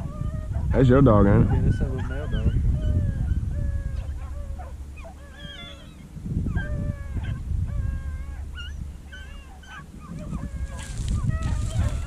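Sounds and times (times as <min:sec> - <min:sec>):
dogs baying: 0:00.0 - 0:12.0.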